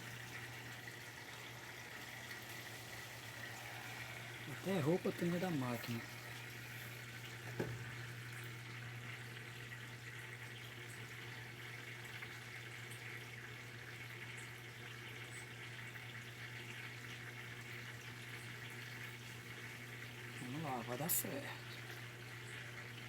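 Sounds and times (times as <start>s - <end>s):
water pouring into washing machine: 0.0s - 23.0s.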